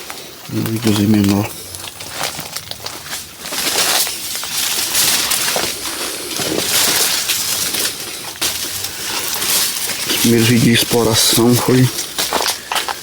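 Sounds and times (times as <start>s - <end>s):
crunching and rustling: 0.0s - 13.0s.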